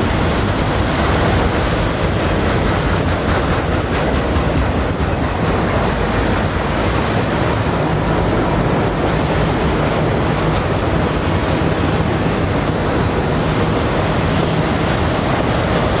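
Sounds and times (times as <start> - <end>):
train wheels running on rails: 0.0 - 16.0.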